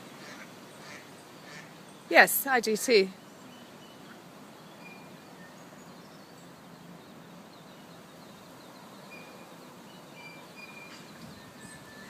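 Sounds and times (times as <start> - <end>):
steady background hiss: 0.0 - 12.0
faint high bird chirps: 1.4 - 12.0.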